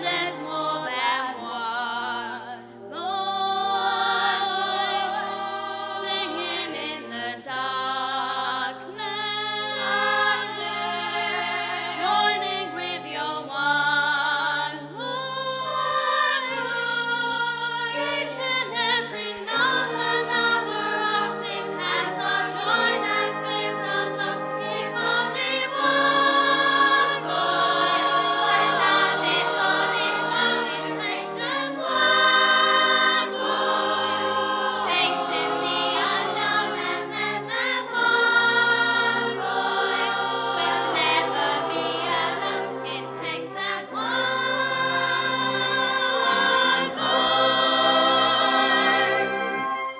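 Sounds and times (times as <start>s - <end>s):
choir singing: 0.0s - 49.9s.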